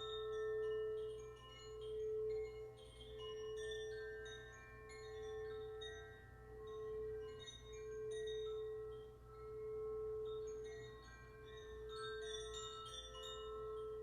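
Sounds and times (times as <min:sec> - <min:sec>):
singing bowl low tone: 0:00.0 - 0:14.0.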